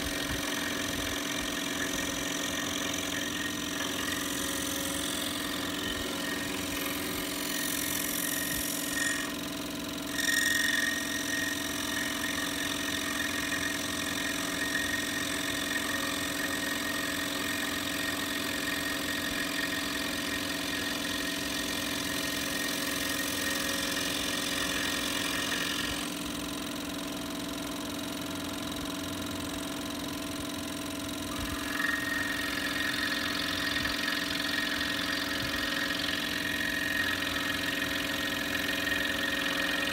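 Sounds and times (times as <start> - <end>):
saw blade rasping through wood: 0.0 - 26.6, 31.1 - 39.9
scroll saw hum: 0.0 - 39.9.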